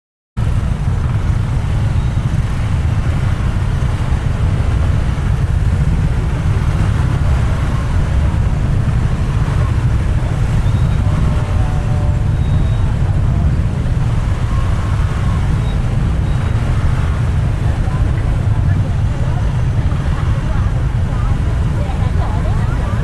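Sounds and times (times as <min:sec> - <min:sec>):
road traffic rumble: 0:00.4 - 0:23.0.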